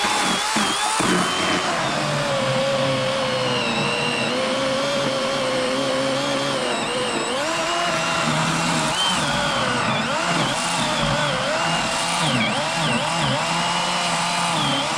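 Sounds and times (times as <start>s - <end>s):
electric chainsaw cutting log: 0.0s - 14.9s.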